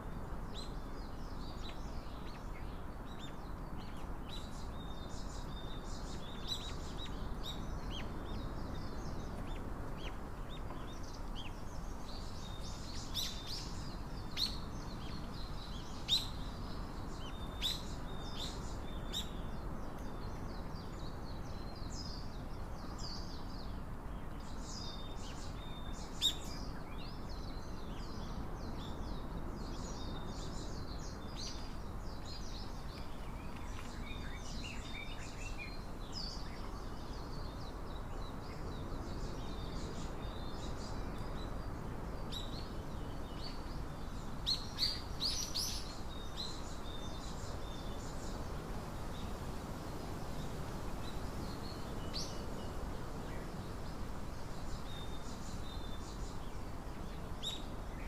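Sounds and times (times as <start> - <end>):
small songbirds chirping: 0.0 - 58.0
steady background hiss: 0.0 - 58.0.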